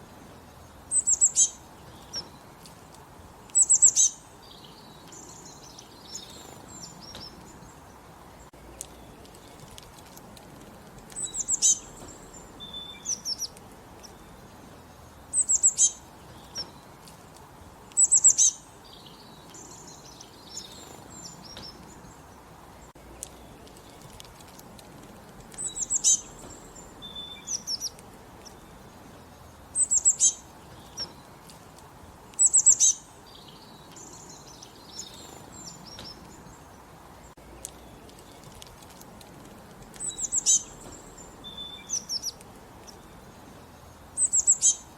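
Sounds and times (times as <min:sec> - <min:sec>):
low background hiss: 0:00.0 - 0:44.9
soft bird twittering: 0:00.0 - 0:44.9
songbirds chirping: 0:00.0 - 0:44.9.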